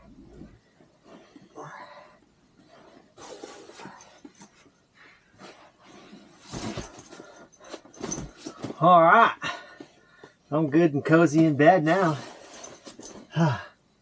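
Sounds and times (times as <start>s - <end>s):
bedding rustling: 0.0s - 10.4s, 11.3s - 13.6s.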